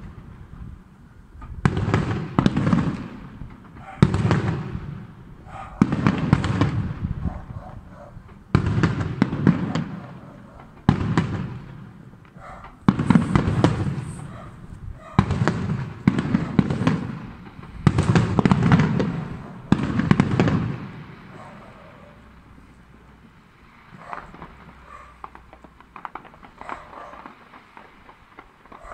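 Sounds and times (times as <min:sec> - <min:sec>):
fireworks bangs: 0:00.0 - 0:28.9
rolling rumble and crackling: 0:00.0 - 0:28.9.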